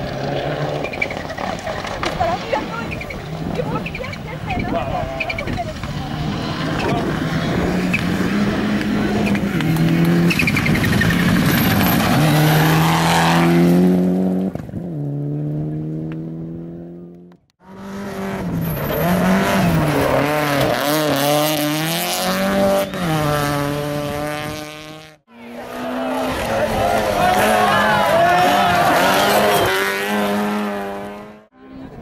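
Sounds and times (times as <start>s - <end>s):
rally car engine at full throttle: 0.0s - 4.2s, 4.8s - 32.0s.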